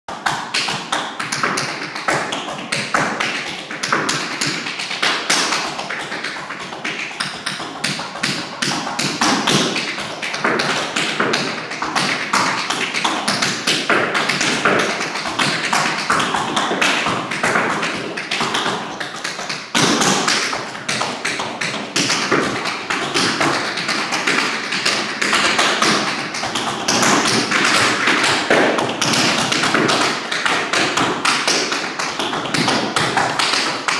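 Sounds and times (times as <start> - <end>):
tap shoes on hardwood floor: 0.1 - 33.9.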